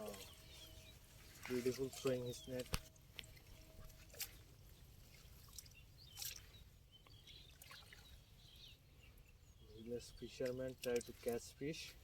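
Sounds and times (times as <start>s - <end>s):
faint water drips and trickles: 0.0s - 12.0s.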